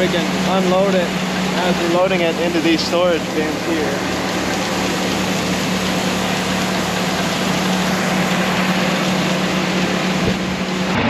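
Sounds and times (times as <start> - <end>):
grain grinder and auger running: 0.0 - 11.0.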